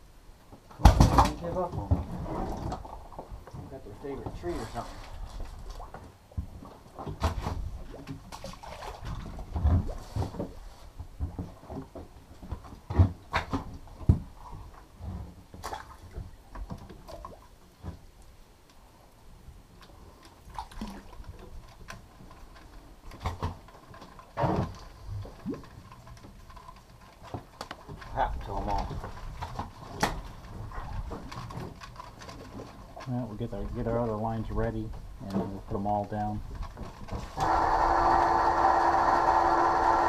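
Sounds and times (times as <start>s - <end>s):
water sounds: 1.2s - 40.0s.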